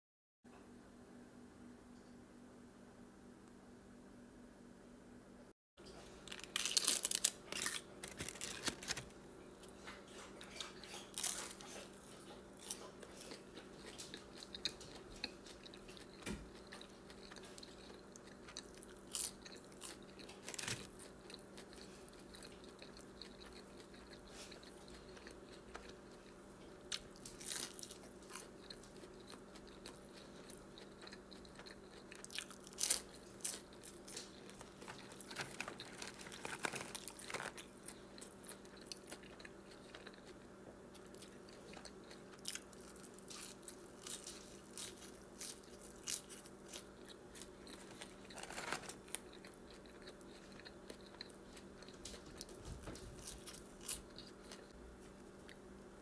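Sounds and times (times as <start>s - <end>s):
faint steady hum: 0.5s - 56.0s
chewing and biting food: 5.9s - 55.7s.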